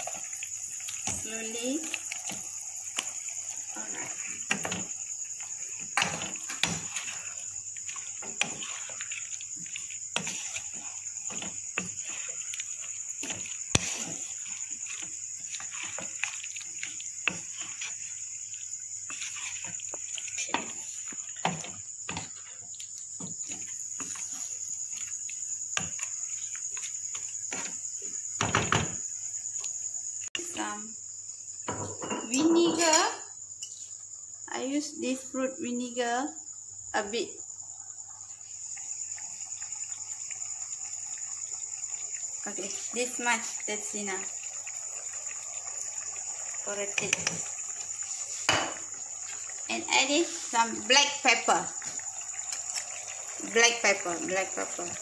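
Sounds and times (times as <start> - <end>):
sauce bubbling and sloshing: 0.0 - 28.4, 37.4 - 55.0.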